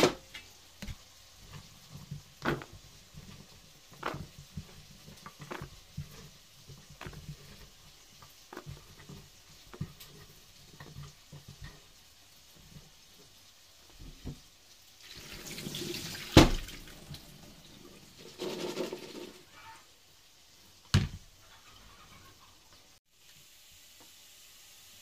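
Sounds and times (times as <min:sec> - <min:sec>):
tap water running over potatoes: 0:00.2 - 0:22.0, 0:22.6 - 0:25.0.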